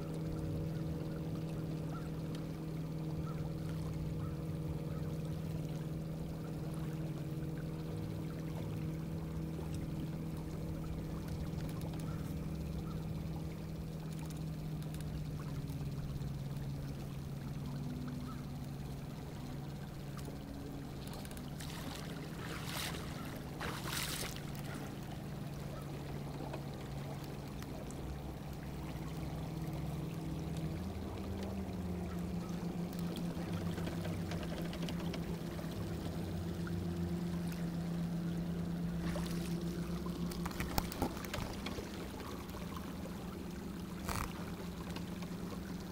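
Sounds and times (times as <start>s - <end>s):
water lapping along a hull: 0.0s - 45.9s.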